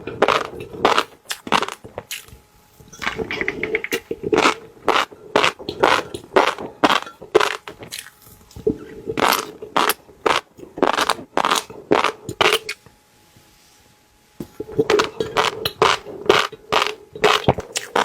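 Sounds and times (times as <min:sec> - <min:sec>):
crunching and biting food: 0:00.0 - 0:02.4, 0:03.0 - 0:12.8, 0:14.7 - 0:18.0.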